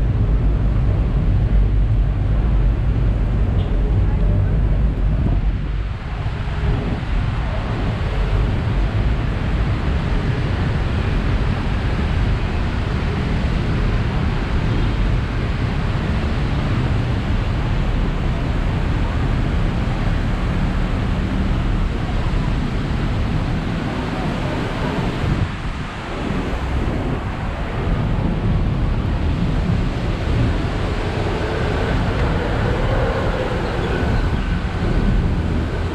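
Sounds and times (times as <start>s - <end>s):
city traffic on wet roads: 0.0s - 35.9s.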